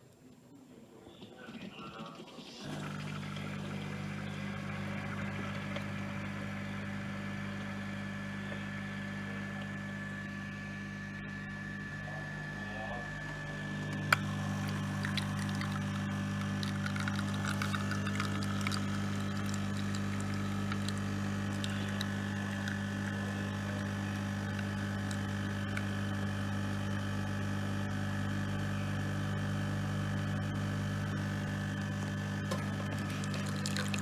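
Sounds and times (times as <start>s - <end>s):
coffee machine pump humming: 2.4s - 34.0s.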